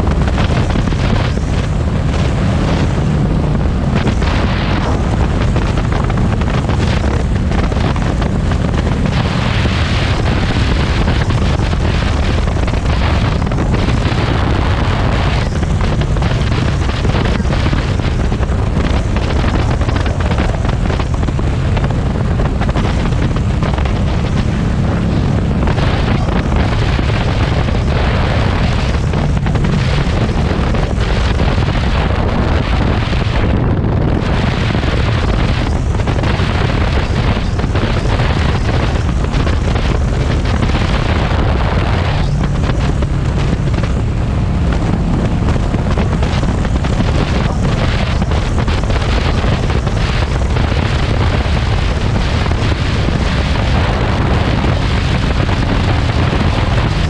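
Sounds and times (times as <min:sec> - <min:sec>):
motorcycle engine rumble: 0:00.0 - 0:57.0
wind buffeting on microphone: 0:00.0 - 0:57.0.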